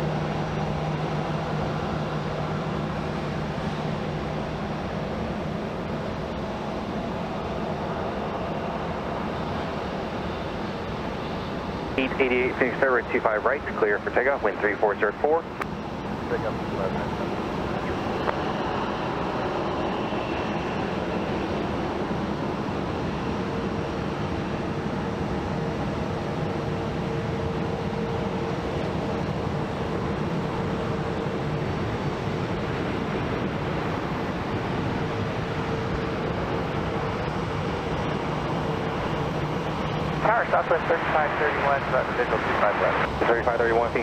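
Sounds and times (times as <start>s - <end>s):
jet engines at takeoff thrust: 0.0s - 44.0s.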